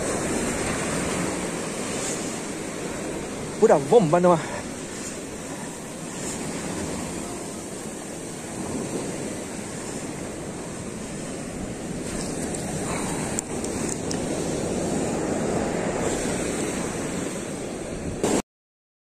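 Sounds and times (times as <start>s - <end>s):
surf washing onto beach: 0.0s - 18.4s
wind buffeting microphone: 0.0s - 18.4s.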